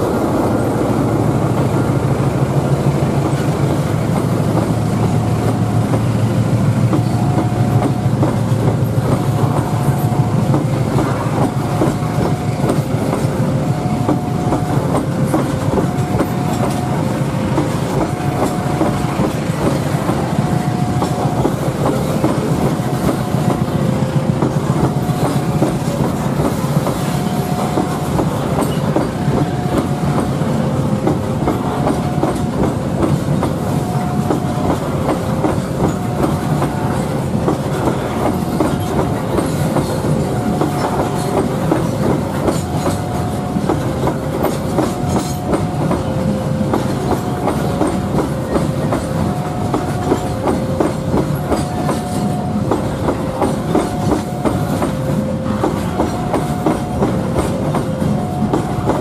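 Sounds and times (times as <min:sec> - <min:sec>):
freight train wheels rumbling: 0:00.0 - 0:59.0
two-tone warning signal: 0:04.6 - 0:59.0.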